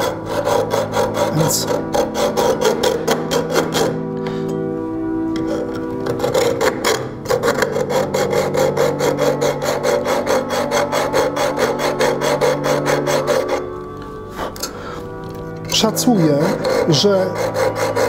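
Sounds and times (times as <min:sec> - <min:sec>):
hacksaw cutting metal: 0:00.0 - 0:04.0, 0:05.3 - 0:13.7, 0:15.9 - 0:18.0.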